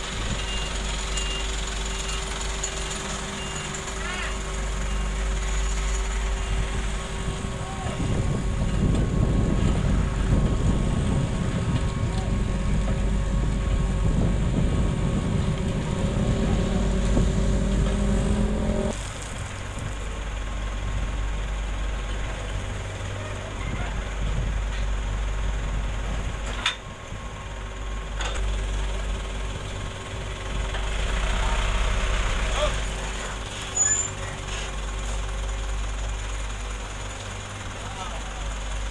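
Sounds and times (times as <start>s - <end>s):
dump truck idling: 0.0s - 38.9s
road roller running: 0.0s - 38.9s.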